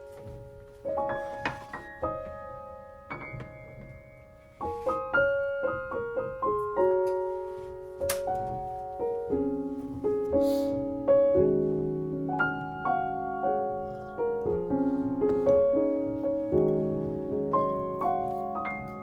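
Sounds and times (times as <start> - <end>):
gentle solo piano piece: 0.0 - 19.0.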